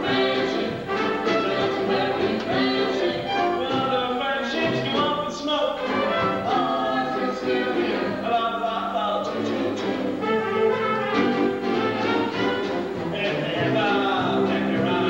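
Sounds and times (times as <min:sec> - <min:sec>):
orchestral accompaniment: 0:00.0 - 0:08.4, 0:09.2 - 0:15.0
voices singing a show tune: 0:00.0 - 0:15.0.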